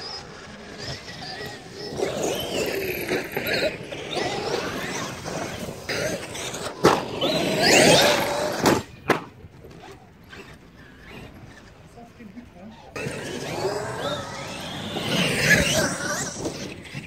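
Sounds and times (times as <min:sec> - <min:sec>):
electric motors whining: 0:00.0 - 0:17.0
toy truck crashing: 0:00.5 - 0:10.6, 0:13.0 - 0:17.0.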